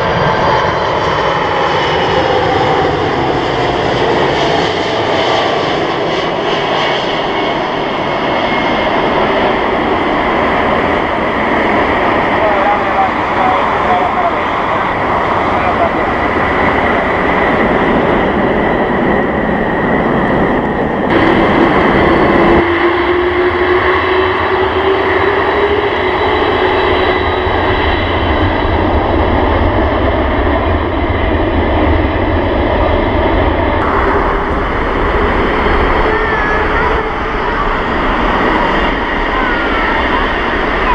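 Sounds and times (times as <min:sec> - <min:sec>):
jet engines running: 0:00.0 - 0:40.9
engine whine rising: 0:00.2 - 0:40.9.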